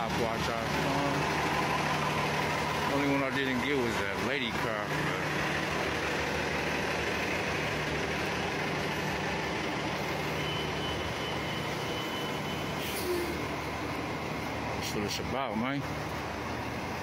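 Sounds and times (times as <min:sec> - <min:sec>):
bus engine droning: 0:00.0 - 0:17.0
street noise: 0:00.0 - 0:17.0.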